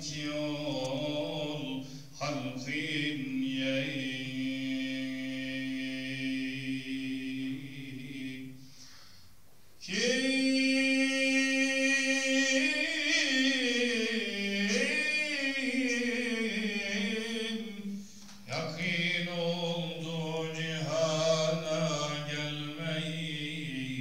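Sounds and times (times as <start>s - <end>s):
man chanting unaccompanied: 0.0s - 8.6s, 9.8s - 24.0s.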